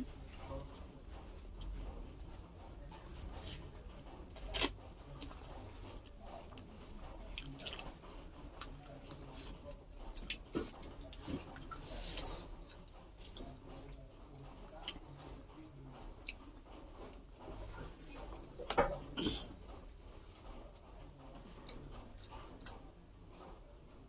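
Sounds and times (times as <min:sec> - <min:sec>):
close chewing and biting: 0:00.0 - 0:19.9, 0:20.8 - 0:24.0.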